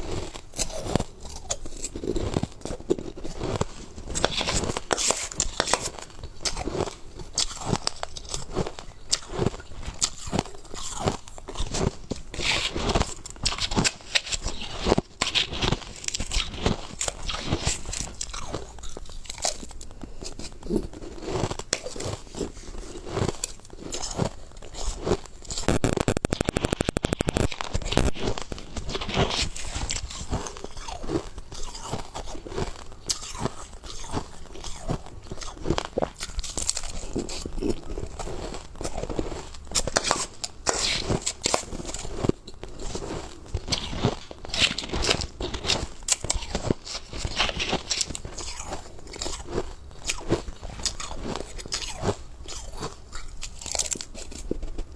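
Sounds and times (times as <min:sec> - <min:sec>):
ice being crunched by teeth: 0:00.0 - 0:54.9.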